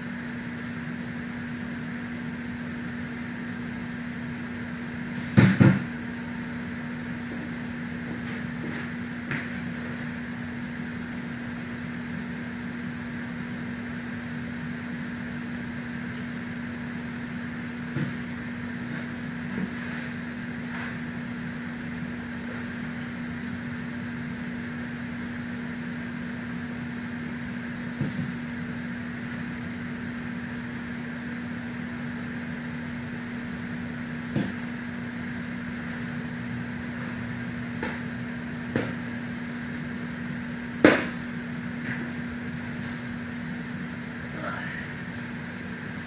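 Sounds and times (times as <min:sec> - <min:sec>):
window air conditioner humming: 0:00.0 - 0:46.0.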